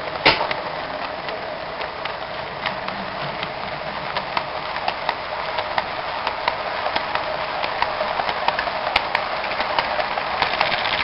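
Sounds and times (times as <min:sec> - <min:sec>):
model train wheels rumbling: 0:00.0 - 0:11.0
wheels clicking over track joints: 0:00.0 - 0:11.0.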